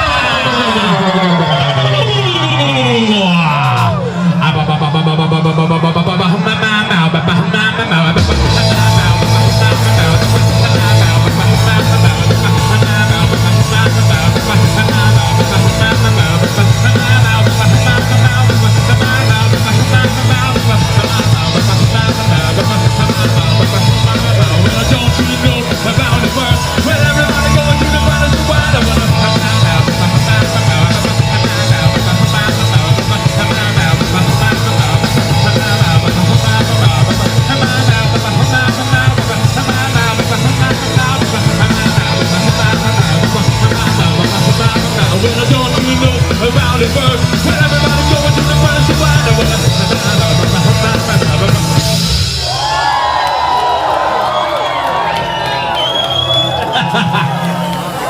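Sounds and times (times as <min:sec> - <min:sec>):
punk rock band instrumental: 0:00.0 - 0:58.0.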